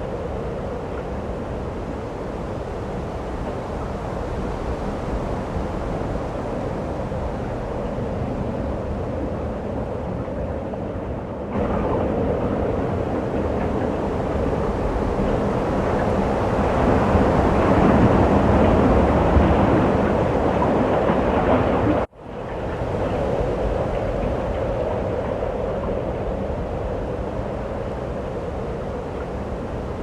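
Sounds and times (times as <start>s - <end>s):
rushing snowstorm wind: 0.0s - 30.0s.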